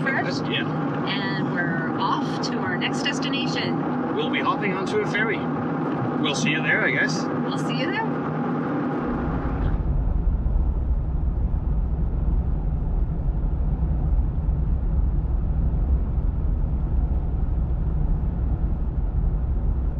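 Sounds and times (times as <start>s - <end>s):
road noise: 0.0s - 19.9s
vehicle engine rumble: 0.0s - 19.9s.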